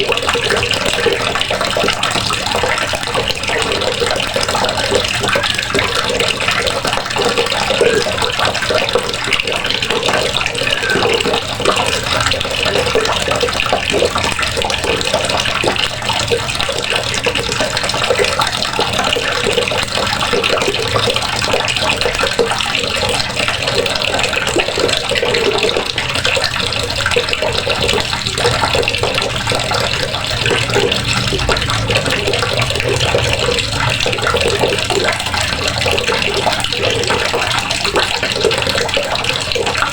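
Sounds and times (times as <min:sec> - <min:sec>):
water running from faucet: 0:00.0 - 0:39.9.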